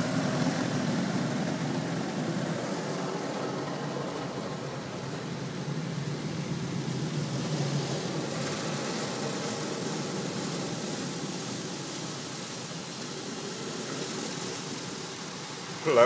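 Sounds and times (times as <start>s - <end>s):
car wash machinery rushing: 0.0s - 16.0s.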